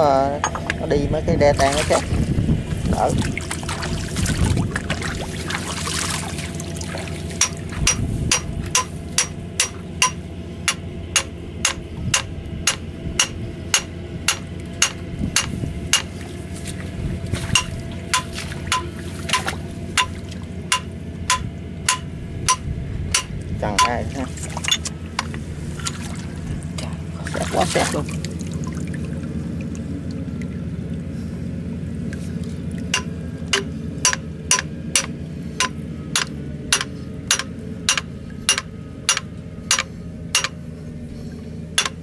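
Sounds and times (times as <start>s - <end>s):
low drone: 0.0s - 42.0s.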